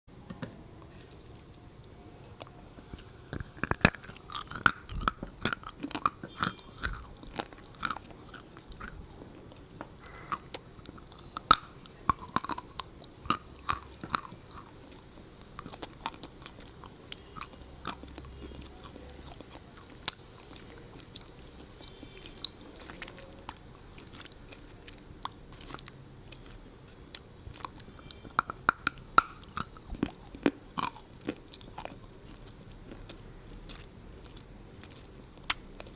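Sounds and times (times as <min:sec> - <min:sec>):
person chewing crunchy food: 0:01.8 - 0:35.9.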